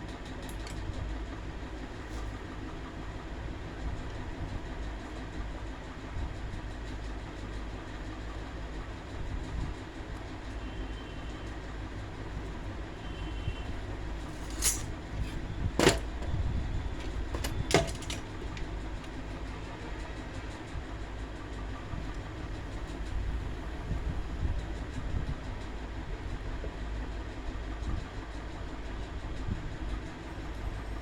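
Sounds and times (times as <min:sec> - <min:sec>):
fan motor humming: 0:00.0 - 0:27.2.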